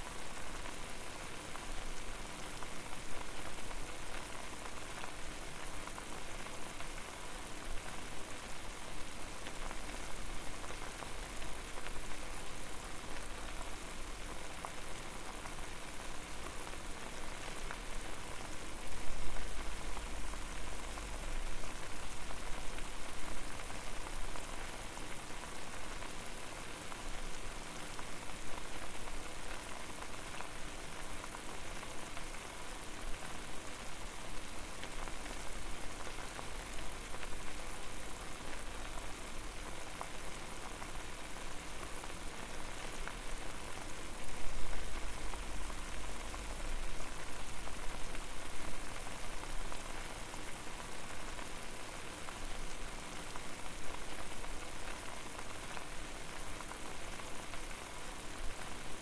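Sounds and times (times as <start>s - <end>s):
water boiling hard in a pot: 0.0s - 59.0s.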